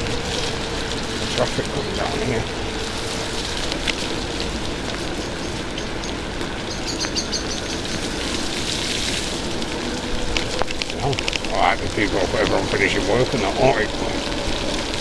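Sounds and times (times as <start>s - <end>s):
heavy rain on wet road: 0.0s - 15.0s
high ticks: 0.0s - 15.0s.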